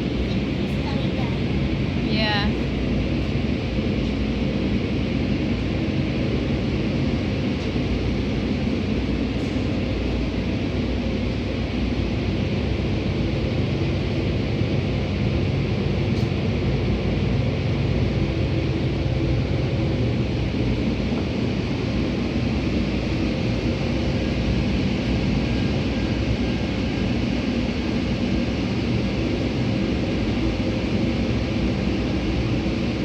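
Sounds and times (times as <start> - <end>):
car wash spray and machinery: 0.0 - 33.0.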